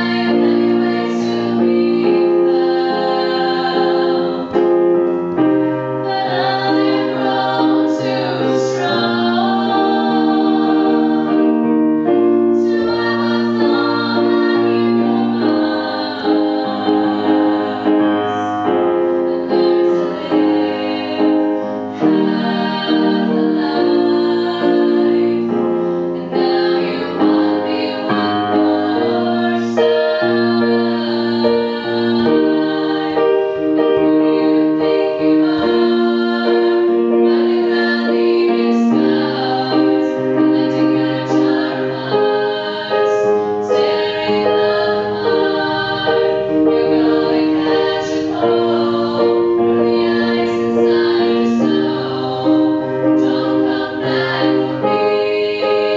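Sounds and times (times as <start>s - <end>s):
women singing together: 0.0s - 4.9s, 5.6s - 55.9s.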